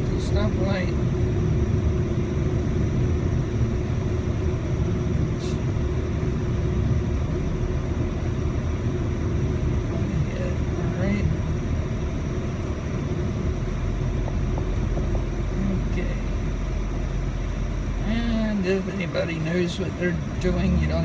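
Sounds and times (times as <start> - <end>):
air conditioning hum: 0.0 - 21.0
car engine and road rumble: 0.0 - 21.0.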